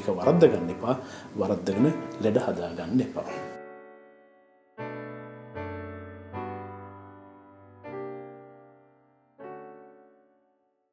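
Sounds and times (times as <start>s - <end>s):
slow keyboard chords: 0.0s - 10.4s.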